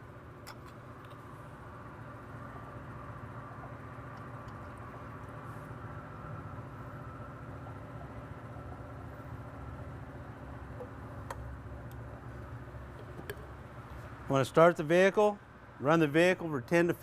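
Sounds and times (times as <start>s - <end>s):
faint higher hum: 0.0s - 17.0s.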